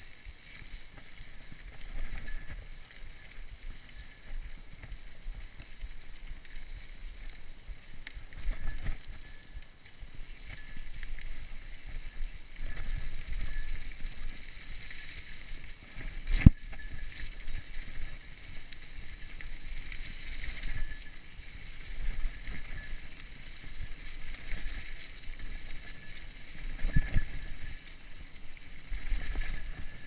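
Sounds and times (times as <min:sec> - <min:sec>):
bike rattling over bumps: 0:00.0 - 0:30.0
bike tyres rumbling on dirt: 0:00.0 - 0:30.0.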